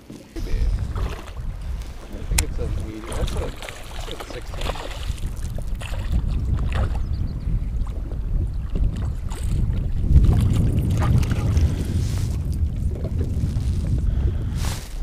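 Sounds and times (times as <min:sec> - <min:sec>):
waves washing against boat: 0:00.4 - 0:07.0, 0:08.6 - 0:15.0
wind buffeting microphone: 0:00.4 - 0:15.0.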